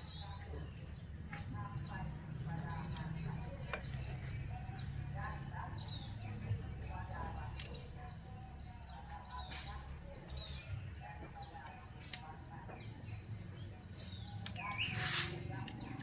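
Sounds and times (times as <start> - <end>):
bird chirps: 0.0 - 16.0.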